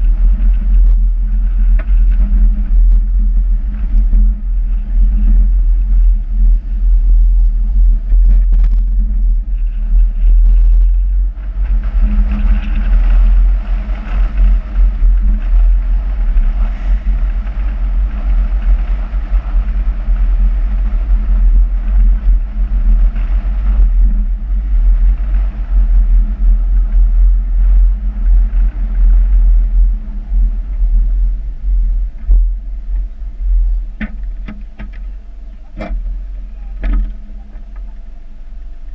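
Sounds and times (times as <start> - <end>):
car engine hum: 0.0 - 38.9
wind buffeting microphone: 0.0 - 38.9.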